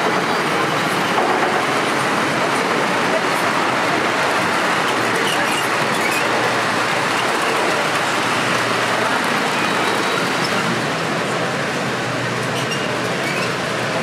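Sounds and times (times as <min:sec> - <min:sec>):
model train rolling on track: 0:00.0 - 0:14.0.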